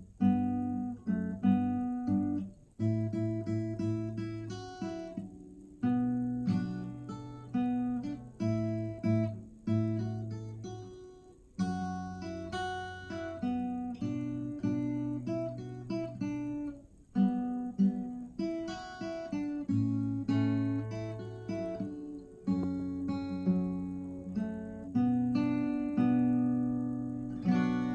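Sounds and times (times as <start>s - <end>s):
acoustic guitar chords: 0.0s - 27.9s.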